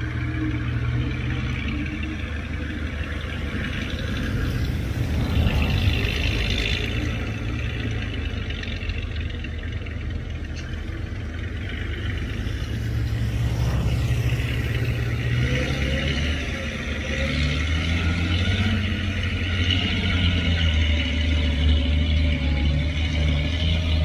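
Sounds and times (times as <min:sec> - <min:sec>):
heavy diesel machinery engine: 0:00.0 - 0:24.0.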